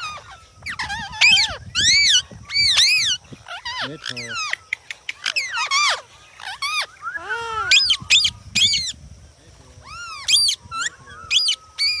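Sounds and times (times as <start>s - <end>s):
parakeets squawking: 0.0s - 9.0s, 9.6s - 12.0s.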